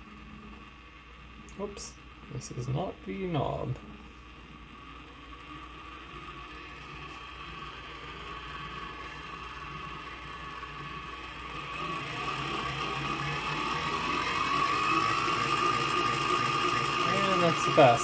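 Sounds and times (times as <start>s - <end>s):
coffee grinder motor running: 0.0s - 18.0s.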